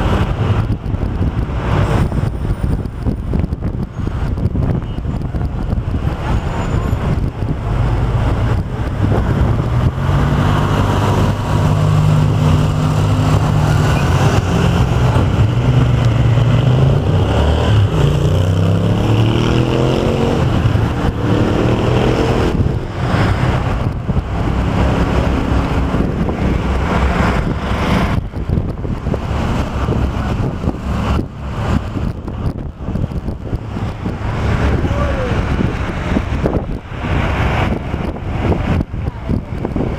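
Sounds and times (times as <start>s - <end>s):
road noise: 0.0s - 39.9s
wind noise on microphone: 0.0s - 39.9s.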